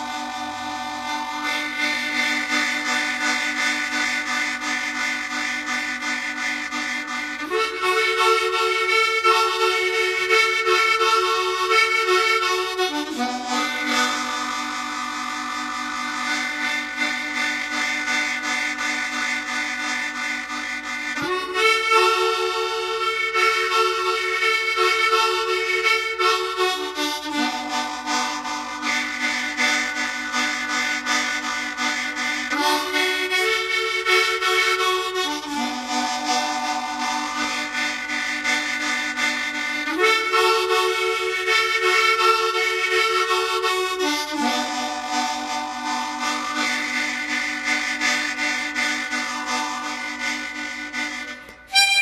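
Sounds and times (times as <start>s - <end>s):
harmonica playing slow chords: 0.0s - 52.0s.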